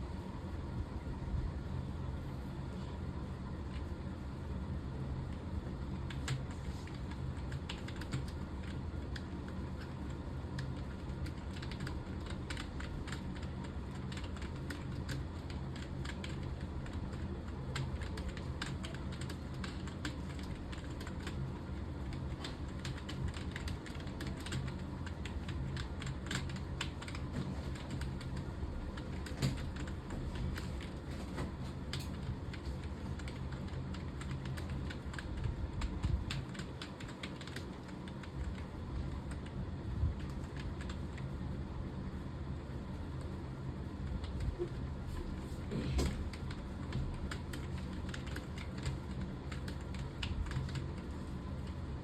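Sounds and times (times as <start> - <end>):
steady low hum: 0.0 - 52.0
computer keyboard typing: 5.3 - 31.1, 31.8 - 41.4, 44.0 - 44.9, 45.8 - 52.0.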